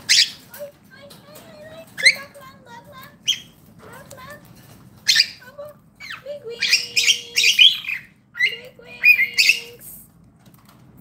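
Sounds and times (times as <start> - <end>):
cockatiels chirping and squawking: 0.0 - 0.8, 1.4 - 9.9.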